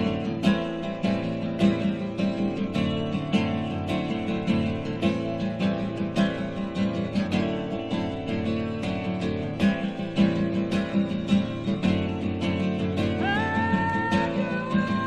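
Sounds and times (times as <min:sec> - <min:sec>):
acoustic guitar strummed and picked: 0:00.0 - 0:15.0.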